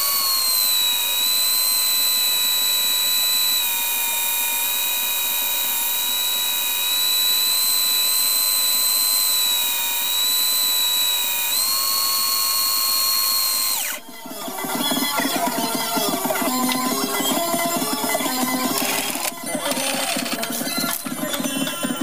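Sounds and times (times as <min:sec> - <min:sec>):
drill motor whining: 0:00.0 - 0:22.0.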